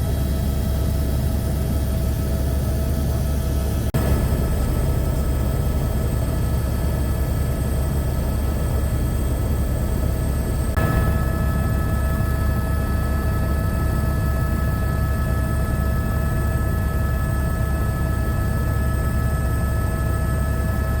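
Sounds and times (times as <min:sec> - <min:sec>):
mechanical hum with whining tones: 0:00.0 - 0:21.0.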